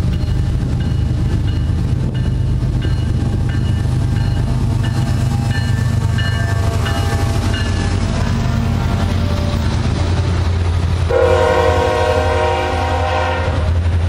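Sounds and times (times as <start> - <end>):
freight train engine rumble: 0.0 - 14.0.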